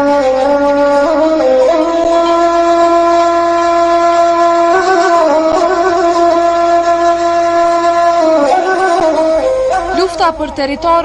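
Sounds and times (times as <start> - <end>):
wind instrument long note: 0.0 - 10.6.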